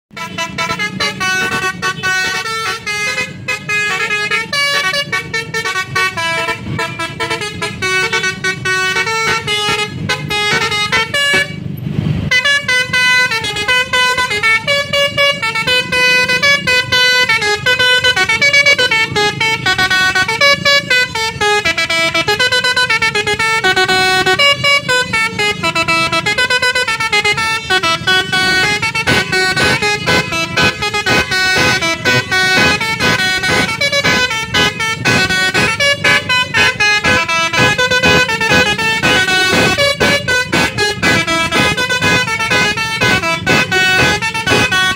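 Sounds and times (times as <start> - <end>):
bus horns playing a tune: 0.1 - 44.9.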